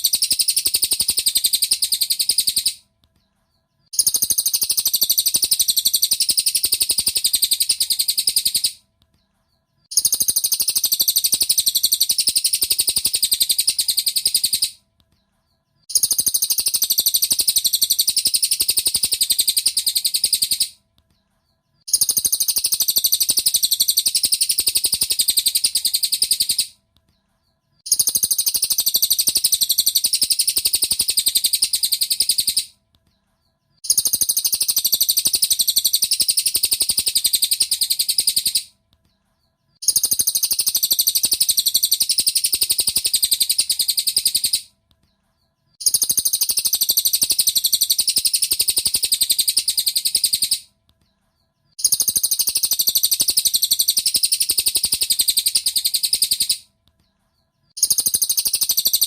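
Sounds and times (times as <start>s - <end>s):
rapid high bird chirping: 0.0s - 59.0s.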